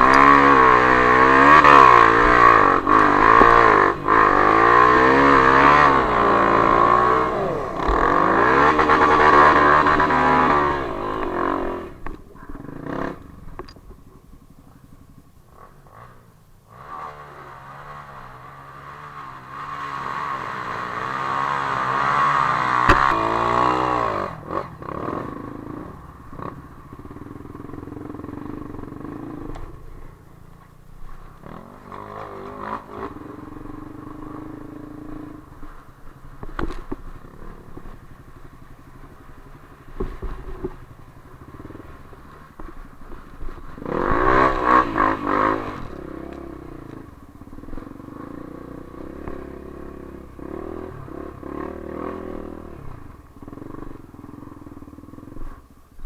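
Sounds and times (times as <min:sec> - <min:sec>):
dirt bike engines revving: 0:00.0 - 0:55.7.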